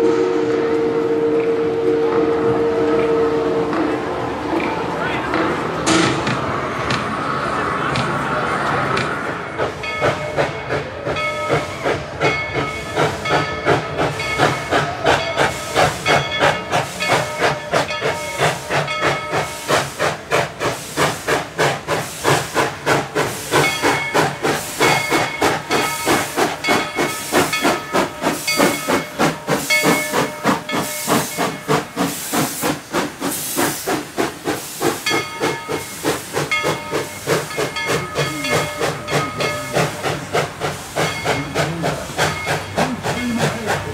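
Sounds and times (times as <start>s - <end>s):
steam locomotive chuffing: 0.0s - 43.9s
steam hissing: 5.7s - 43.9s.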